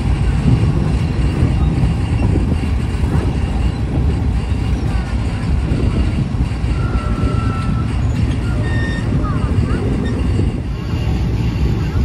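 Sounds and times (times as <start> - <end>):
rushing air: 0.0 - 12.0
train wheels rumbling on rails: 0.0 - 12.0.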